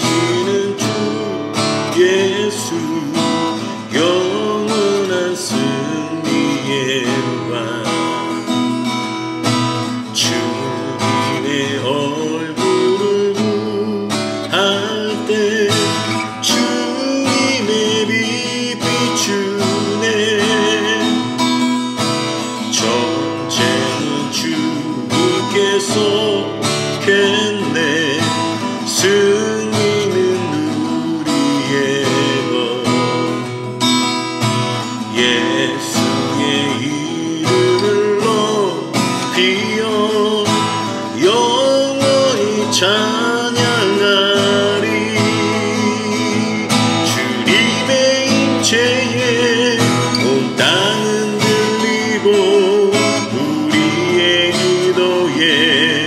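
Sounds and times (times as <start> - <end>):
person singing with vibrato: 0.0 - 56.0
strummed acoustic guitar: 0.0 - 56.0.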